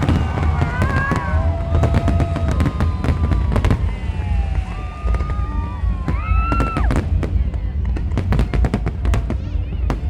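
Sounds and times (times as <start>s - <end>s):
fireworks bangs and crackles: 0.0s - 10.0s
steady low rumble: 0.0s - 10.0s.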